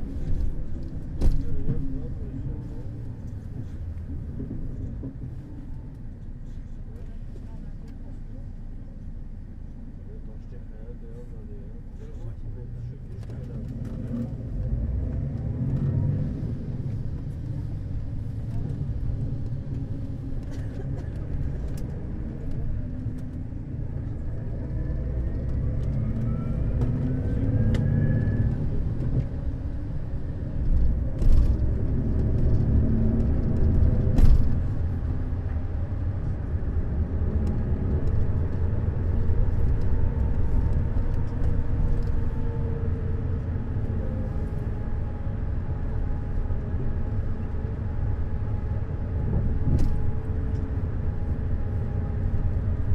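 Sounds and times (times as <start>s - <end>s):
diesel coach engine rumbling: 0.0s - 52.9s.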